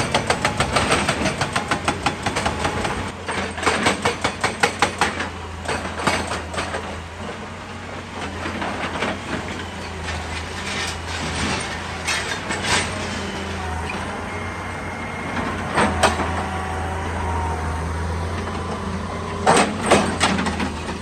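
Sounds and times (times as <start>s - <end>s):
rattling clanks: 0.0s - 6.9s, 8.3s - 21.0s
excavator diesel engine running: 0.0s - 21.0s.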